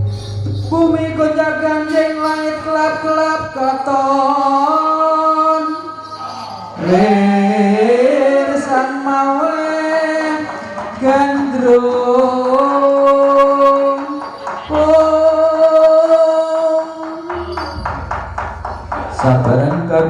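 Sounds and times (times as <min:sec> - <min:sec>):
person singing long notes: 0:00.0 - 0:18.1
accompanying music: 0:00.0 - 0:20.0.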